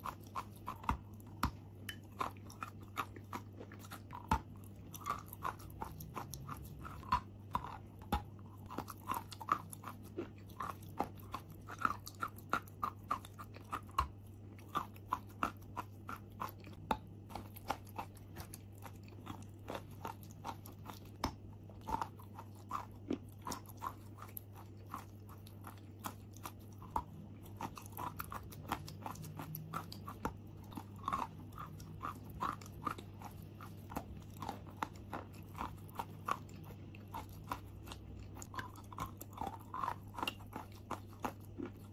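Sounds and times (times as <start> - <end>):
chalk crunching while chewed: 0.0 - 41.9.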